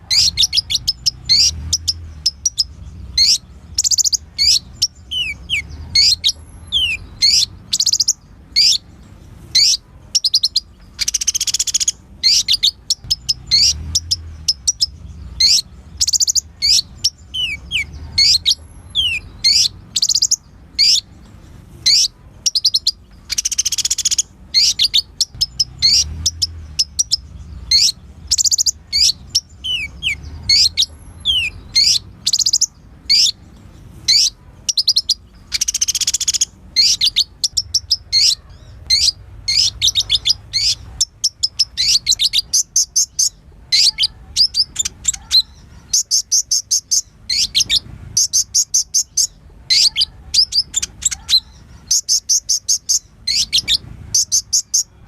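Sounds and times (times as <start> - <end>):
bird chirping: 0.0 - 55.0
bird trill: 0.0 - 55.0.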